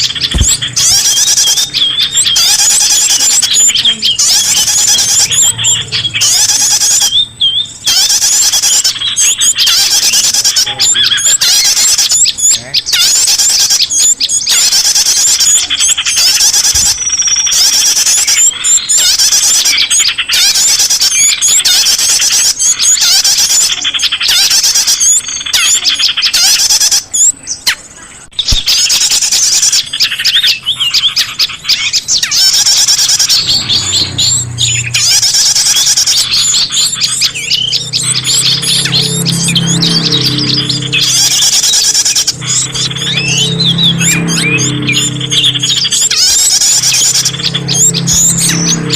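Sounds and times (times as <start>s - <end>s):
chorus of small birds chirping: 0.0s - 48.9s.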